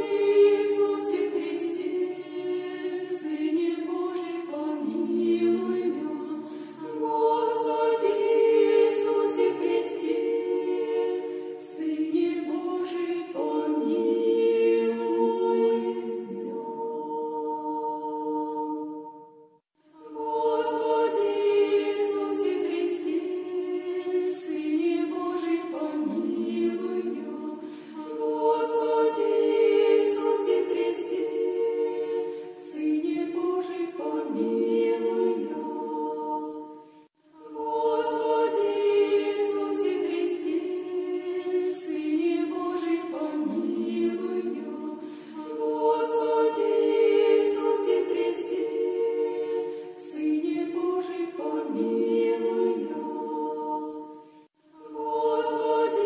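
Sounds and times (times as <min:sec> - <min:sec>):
a cappella choir chanting: 0:00.0 - 0:56.0.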